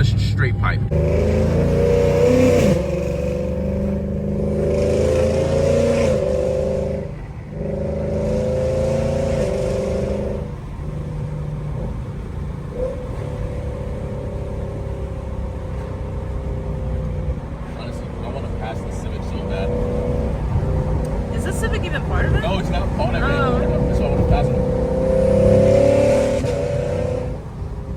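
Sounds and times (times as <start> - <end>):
car exhaust droning while cruising: 0.0 - 27.9.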